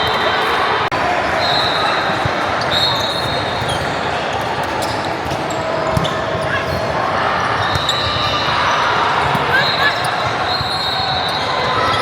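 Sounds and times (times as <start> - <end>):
hubbub of voices: 0.0 - 12.0.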